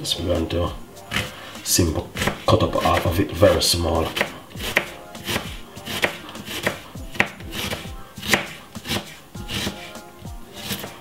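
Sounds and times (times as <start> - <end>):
knife chopping on wooden board: 1.1 - 1.4, 2.0 - 11.0.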